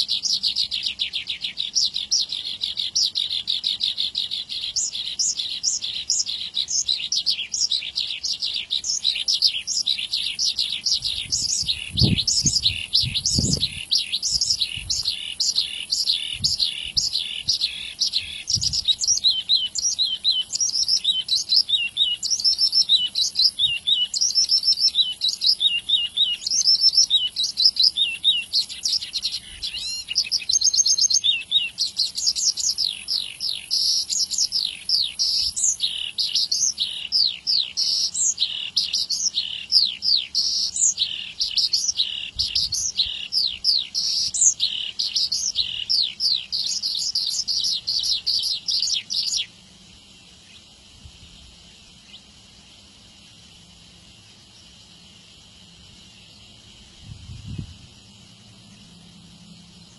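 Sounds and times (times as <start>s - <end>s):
bird singing rapid song: 0.0s - 59.9s.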